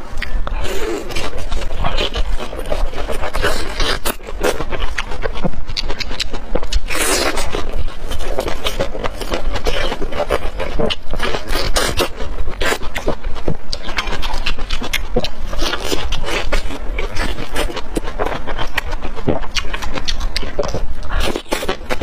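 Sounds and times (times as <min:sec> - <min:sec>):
person chewing close to microphone: 0:00.0 - 0:22.0.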